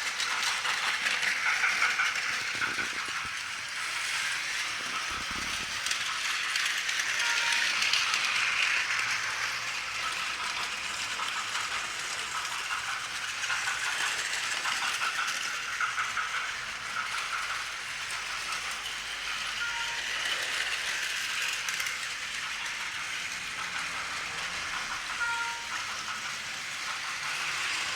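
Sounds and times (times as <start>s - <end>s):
toy trains rattling on track: 0.0s - 27.9s.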